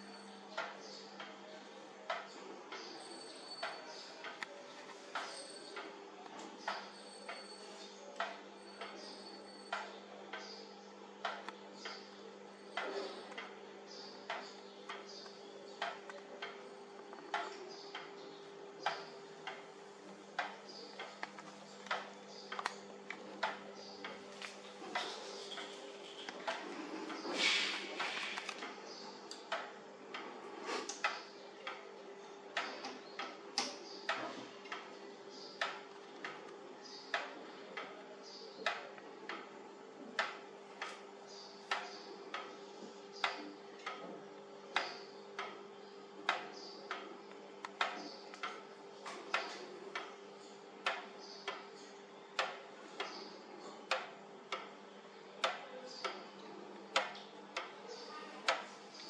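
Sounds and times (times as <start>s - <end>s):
pendulum clock ticking: 0.0s - 27.3s, 27.9s - 59.0s.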